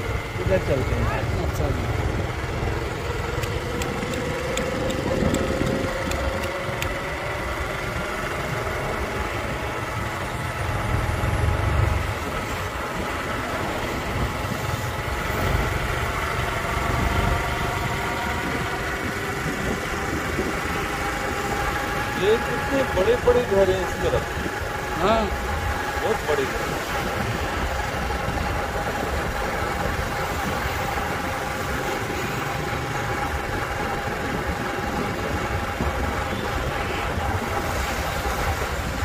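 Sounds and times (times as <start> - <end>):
motorbike engine rumbling: 0.0 - 39.0.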